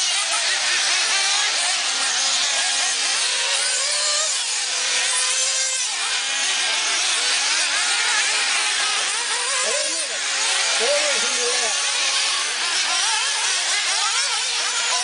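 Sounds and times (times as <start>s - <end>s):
small two-stroke engines buzzing: 0.0s - 15.0s.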